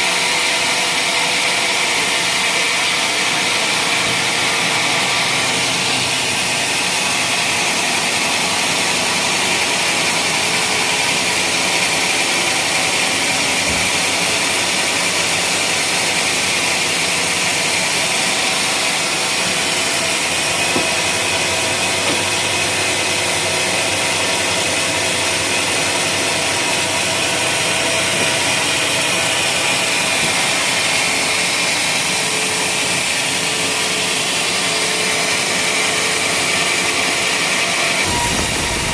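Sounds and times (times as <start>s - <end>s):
sawmill machine whining: 0.0s - 38.9s.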